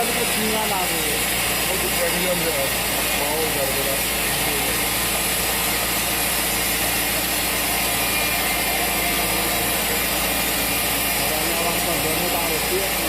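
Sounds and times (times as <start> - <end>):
sawmill machinery running: 0.0 - 13.0.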